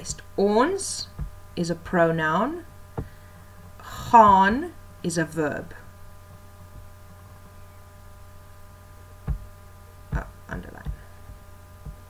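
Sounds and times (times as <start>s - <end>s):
faint steady tones: 0.0s - 12.0s
low electrical hum: 0.0s - 12.0s.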